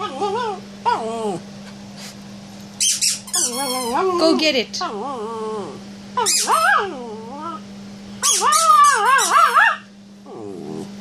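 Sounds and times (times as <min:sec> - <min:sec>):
dog whining vocalizations: 0:00.0 - 0:02.1, 0:02.8 - 0:11.0.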